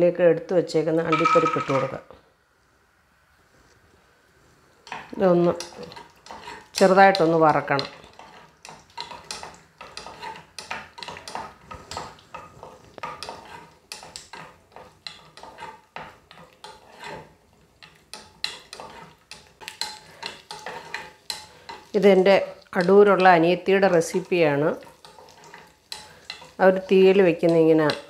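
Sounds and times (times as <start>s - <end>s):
spatula scraping and tapping pan: 1.1s - 2.0s, 4.8s - 28.0s
nuts frying in oil: 4.8s - 28.0s.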